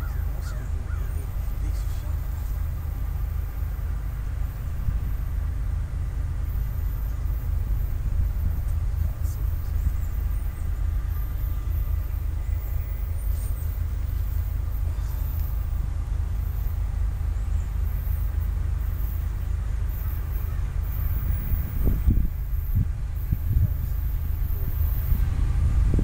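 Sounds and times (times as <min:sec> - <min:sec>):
freight train rumble: 0:00.0 - 0:26.0.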